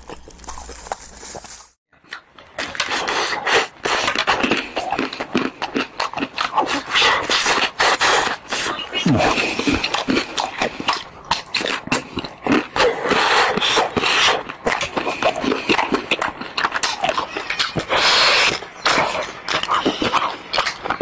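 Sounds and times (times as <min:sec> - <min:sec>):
crunching ice cream coating: 0:00.0 - 0:21.0
wet mouth noises: 0:00.0 - 0:21.0.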